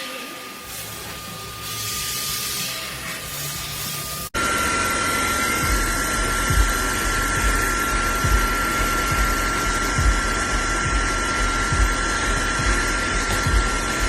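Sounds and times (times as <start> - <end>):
vacuum motor whining: 0.0 - 14.0.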